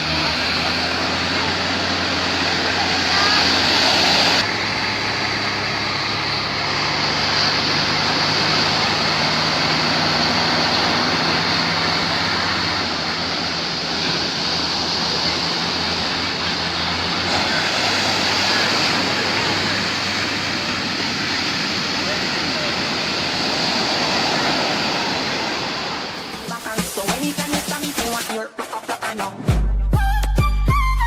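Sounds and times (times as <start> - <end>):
boat engine humming: 0.0 - 28.2
water rushing: 0.0 - 28.3
wind: 0.0 - 28.4.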